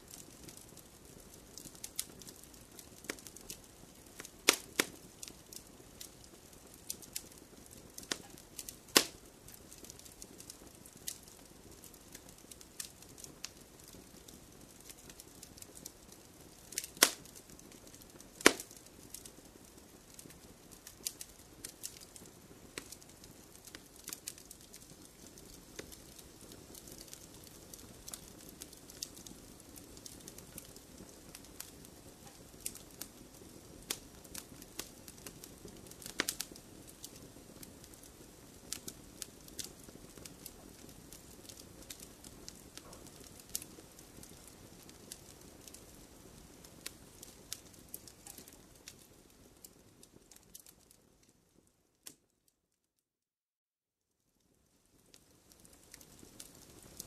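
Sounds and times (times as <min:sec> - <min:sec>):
wood fire crackling and popping: 0:00.0 - 0:52.4, 0:54.4 - 0:57.0.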